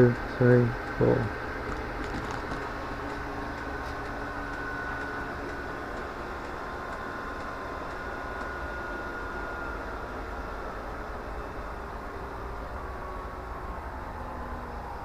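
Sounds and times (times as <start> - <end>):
heater blower fan whining: 0.0 - 15.0.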